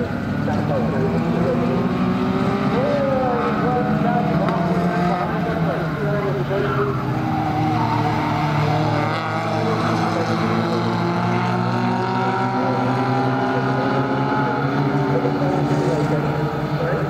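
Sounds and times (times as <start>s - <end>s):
stock car engines racing: 0.0s - 17.0s.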